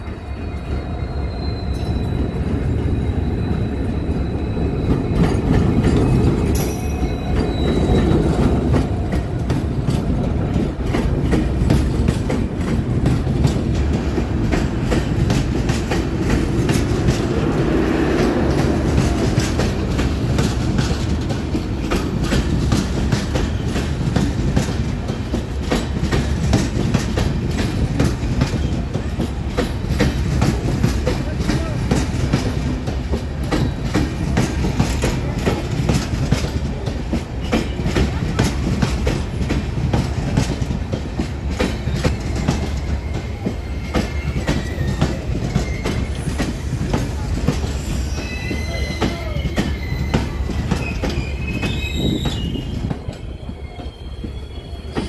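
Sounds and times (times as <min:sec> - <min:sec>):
diesel locomotive rumble: 0:00.0 - 0:53.8.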